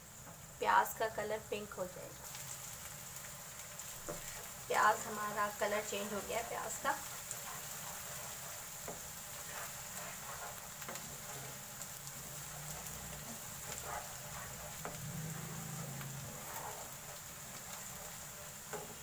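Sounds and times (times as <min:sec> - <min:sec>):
onions sizzling in hot oil: 0:00.0 - 0:19.0
wooden spatula scraping a pan: 0:02.2 - 0:19.0.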